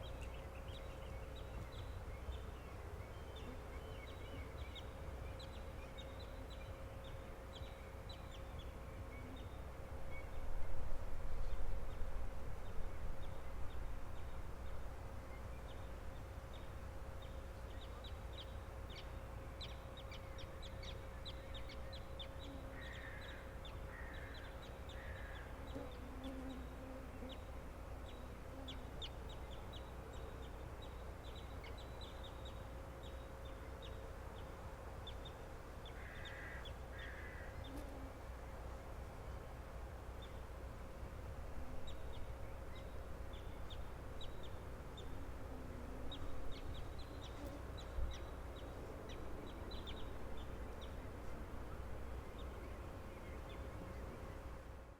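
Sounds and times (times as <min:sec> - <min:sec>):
low background rush: 0:00.0 - 0:54.9.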